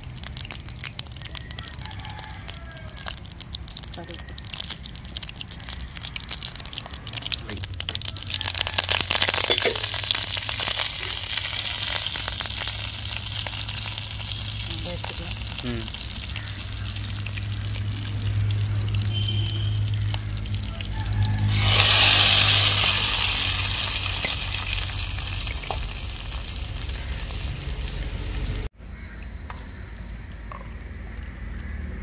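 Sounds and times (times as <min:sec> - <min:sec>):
oil frying hiss: 0:00.0 - 0:28.7
seeds crackling and popping in oil: 0:00.0 - 0:28.7.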